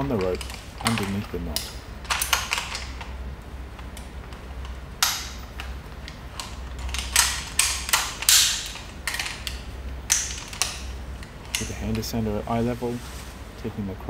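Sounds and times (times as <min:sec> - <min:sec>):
metal hardware clicking and rattling: 0:00.0 - 0:12.4.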